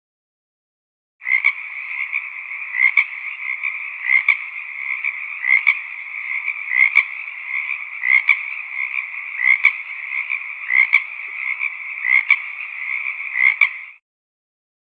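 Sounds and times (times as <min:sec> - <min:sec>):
frogs croaking: 0:01.2 - 0:14.0.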